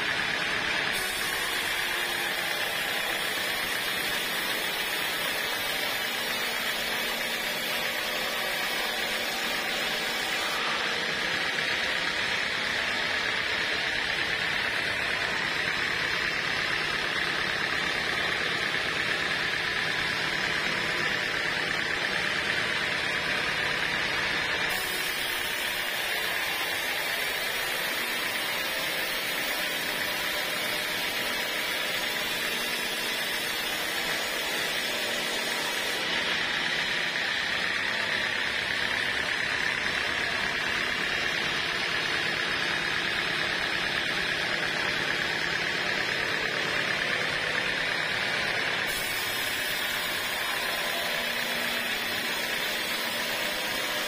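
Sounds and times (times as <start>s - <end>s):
saw blade hissing through wood: 0.0s - 43.5s, 44.4s - 54.0s
band sawmill drone: 0.0s - 54.0s.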